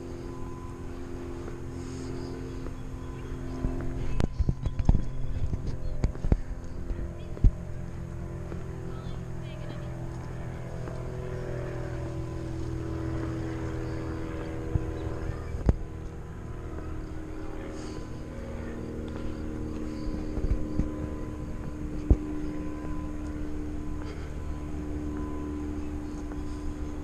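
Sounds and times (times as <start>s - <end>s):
engine drone: 0.0s - 27.0s.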